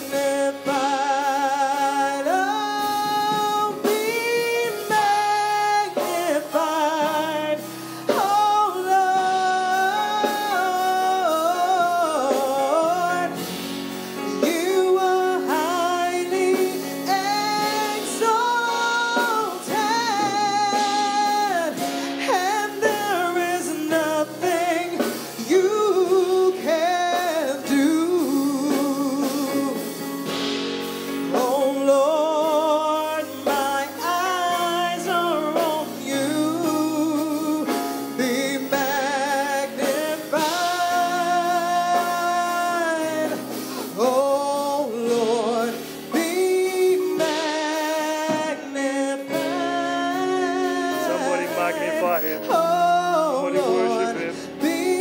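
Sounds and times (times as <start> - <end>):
woman singing with vibrato: 0.0 - 13.4, 14.3 - 29.8, 31.4 - 55.0
keyboard accompaniment: 0.0 - 55.0.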